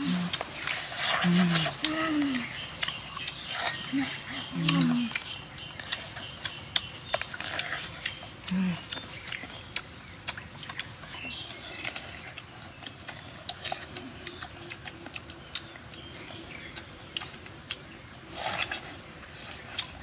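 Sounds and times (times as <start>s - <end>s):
bird chirping: 0.0s - 18.9s.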